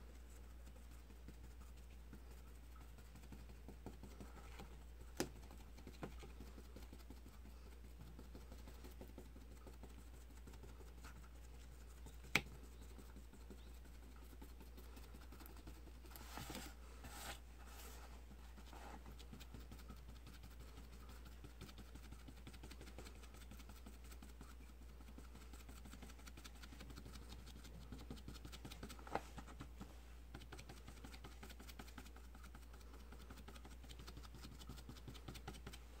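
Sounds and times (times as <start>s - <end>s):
low steady hum: 0.0s - 36.0s
paintbrush dabbing: 0.0s - 36.0s.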